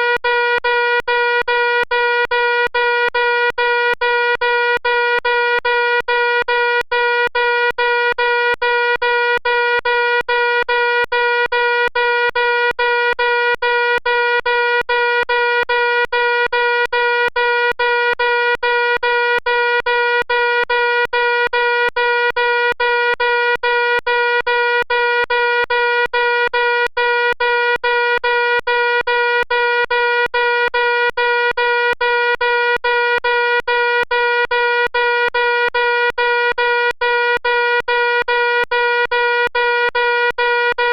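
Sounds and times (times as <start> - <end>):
fire alarm buzzing tone: 0.0 - 40.9.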